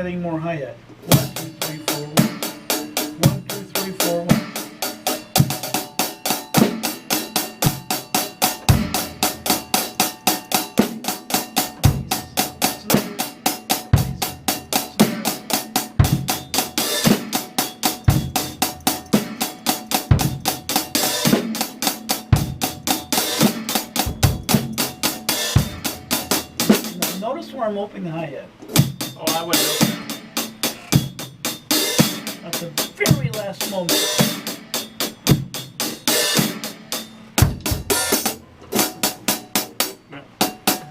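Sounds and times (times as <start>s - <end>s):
drum kit playing a groove: 0.8s - 40.9s.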